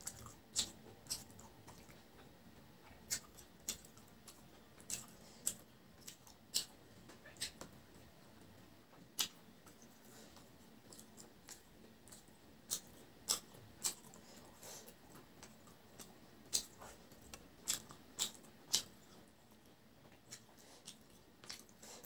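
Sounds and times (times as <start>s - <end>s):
person chewing: 0.0s - 7.8s, 9.1s - 22.0s.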